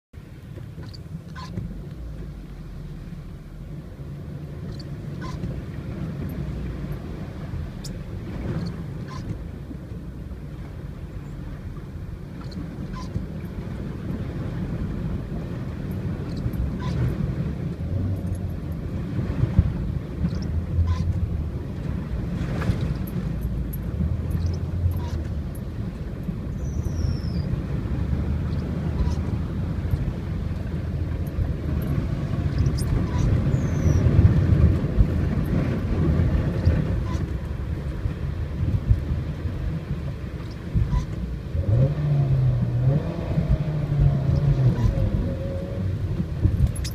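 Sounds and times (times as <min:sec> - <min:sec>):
car engine rumbling: 0:00.2 - 0:46.9
water sloshing against car: 0:00.2 - 0:46.9.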